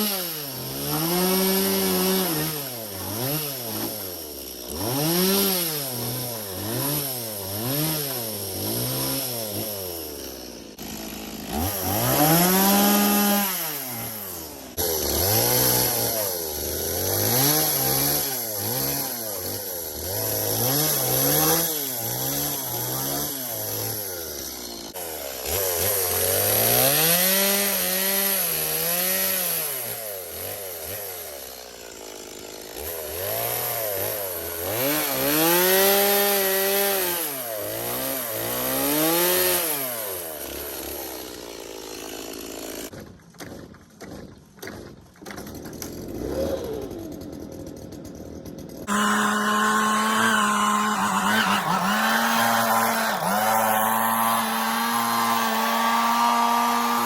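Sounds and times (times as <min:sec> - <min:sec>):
chainsaw engine revving: 0:00.0 - 0:42.9, 0:45.3 - 0:57.0.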